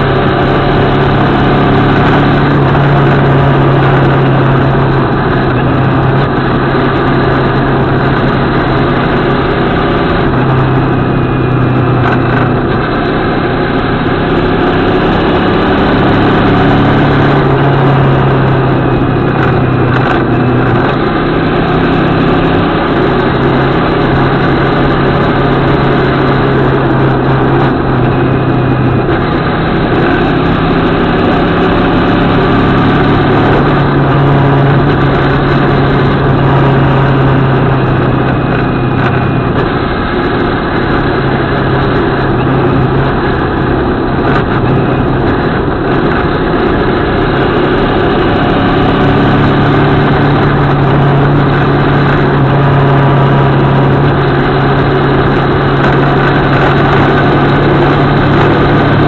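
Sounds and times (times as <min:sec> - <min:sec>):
motorcycle engine running: 0:00.0 - 0:59.0
road noise: 0:00.0 - 0:59.0
wind noise: 0:00.0 - 0:59.0.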